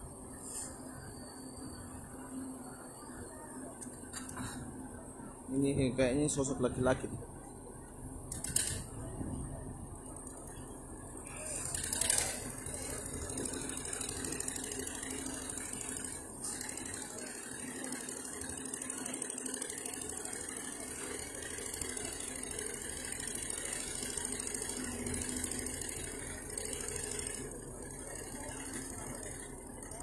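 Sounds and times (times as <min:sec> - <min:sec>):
engine running: 0:00.0 - 0:30.0
faint voices: 0:00.0 - 0:30.0.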